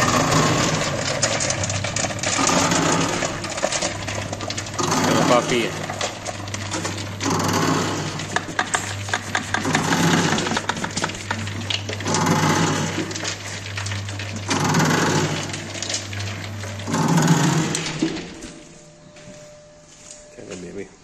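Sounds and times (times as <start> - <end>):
mixer humming: 0.0 - 21.0.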